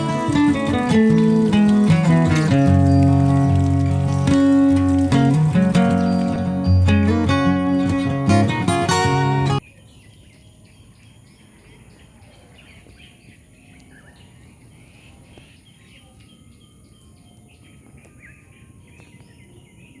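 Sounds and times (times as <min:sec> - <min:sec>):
birds chirping: 0:00.0 - 0:06.4, 0:09.6 - 0:20.0.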